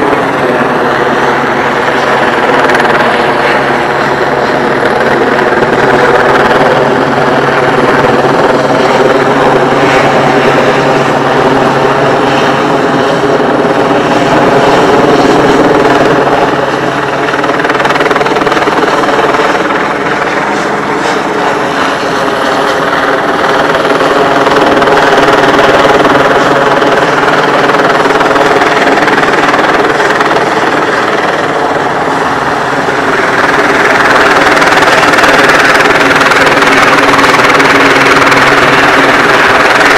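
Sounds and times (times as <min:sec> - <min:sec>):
helicopter flying overhead: 0:00.0 - 0:39.9.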